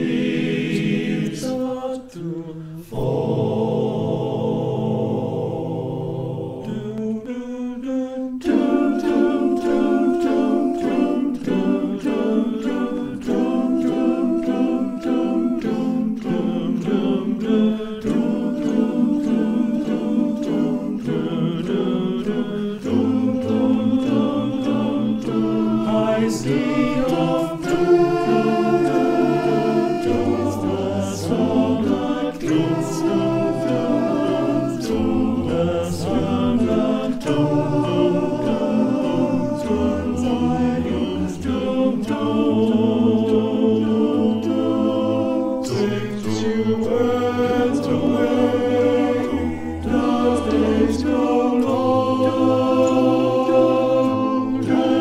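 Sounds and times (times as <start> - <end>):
male voice choir singing: 0.0 - 55.0.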